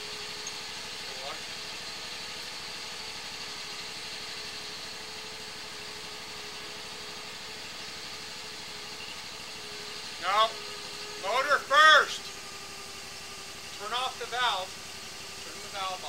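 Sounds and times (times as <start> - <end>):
engine and pump humming: 0.0 - 16.0.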